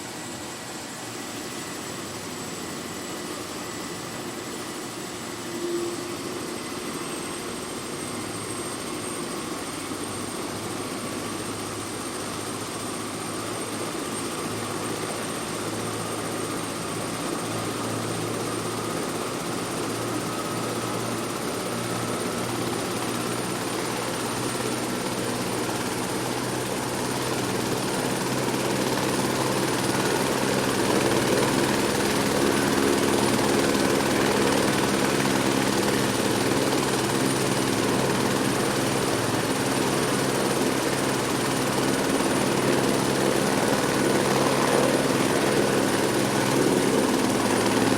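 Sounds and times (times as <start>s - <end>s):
helicopter engine running: 0.0s - 47.9s
helicopter turbine whine: 0.0s - 47.9s.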